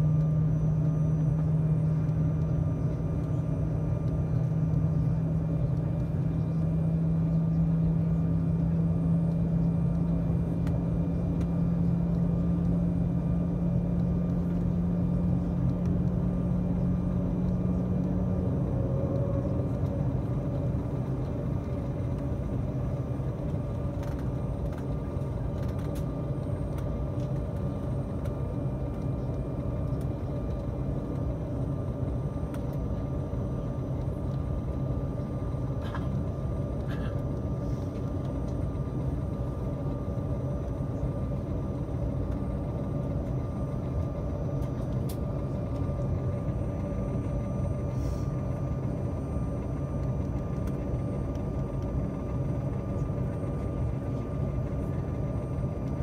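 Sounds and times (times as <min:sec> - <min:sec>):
jet engines running at low thrust: 0:00.0 - 0:56.0
low cabin rumble: 0:00.0 - 0:56.0
thin steady whine: 0:00.0 - 0:56.0.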